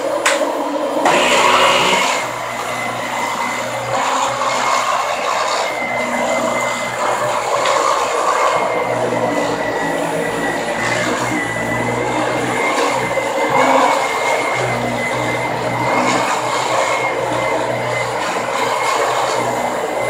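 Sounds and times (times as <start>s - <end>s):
vacuum cleaner on carpet: 0.0s - 20.0s.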